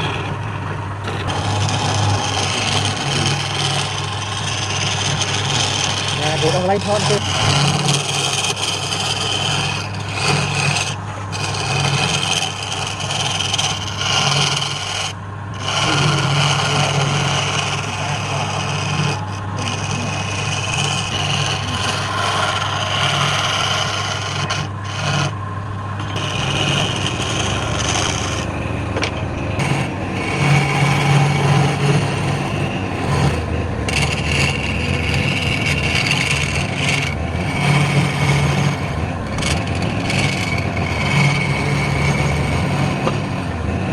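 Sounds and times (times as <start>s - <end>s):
lathe motor humming: 0.0s - 43.9s
tool scraping spinning wood: 0.0s - 43.9s.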